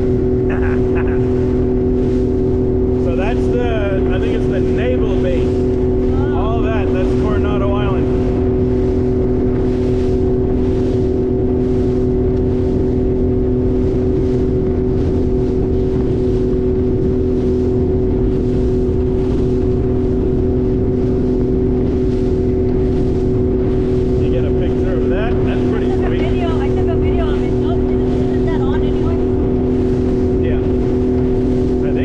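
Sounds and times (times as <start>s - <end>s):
boat motor rumbling: 0.0s - 32.0s.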